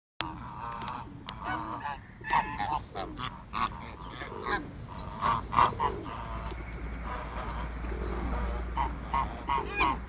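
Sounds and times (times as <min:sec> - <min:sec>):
birds calling: 0:00.2 - 0:10.0.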